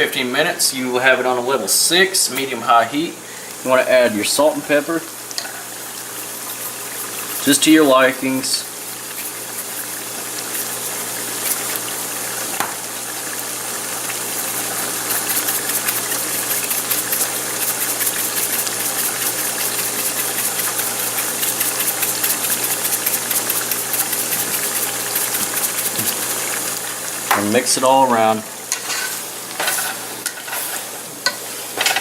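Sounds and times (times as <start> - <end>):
meat sizzling in a pan: 3.2 - 32.0.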